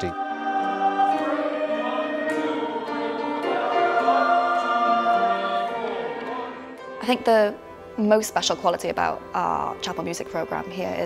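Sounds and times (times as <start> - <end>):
mixed choir singing sustained chords: 0.0 - 11.0.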